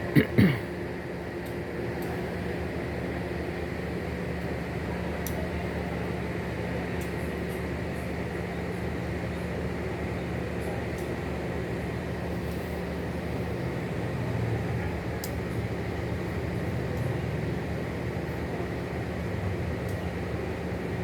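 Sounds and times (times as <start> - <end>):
train carriage hum and rumble: 0.0 - 21.0.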